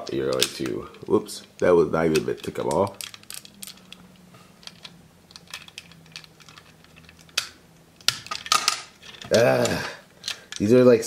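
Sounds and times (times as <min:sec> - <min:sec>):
plastic toy parts clicking: 0:00.0 - 0:04.0, 0:04.6 - 0:10.7.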